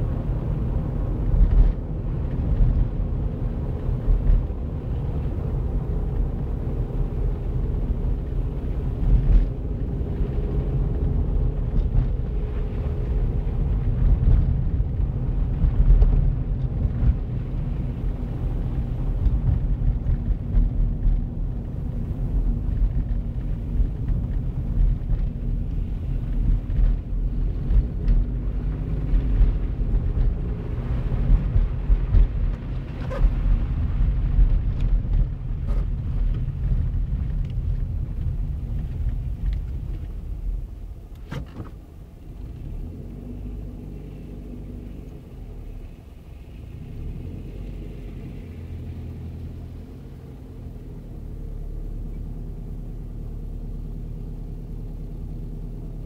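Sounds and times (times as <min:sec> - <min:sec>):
car engine and tyre rumble: 0:00.0 - 0:56.0
car idling hum: 0:00.0 - 0:56.0.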